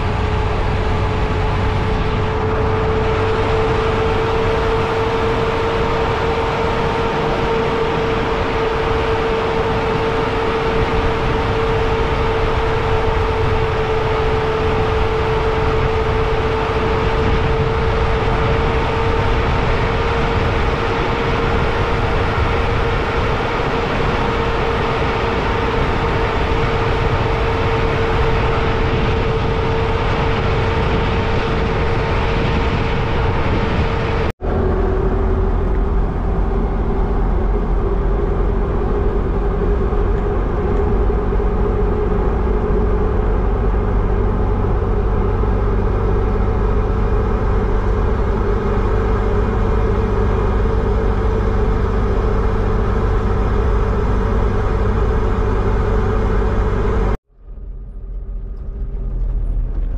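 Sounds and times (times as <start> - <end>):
engine droning: 0.0 - 59.9
road and wind noise: 0.0 - 59.9.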